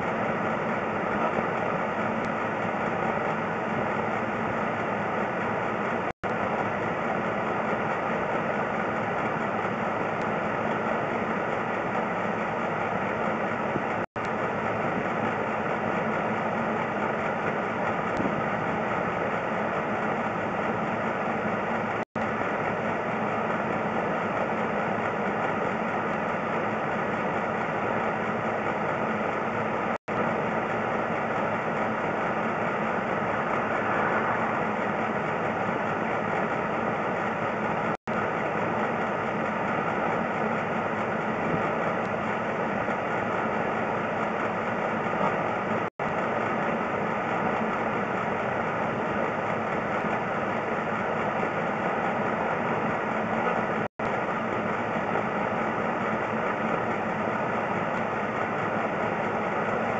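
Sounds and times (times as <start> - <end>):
steady mechanical drone: 0.0 - 59.9.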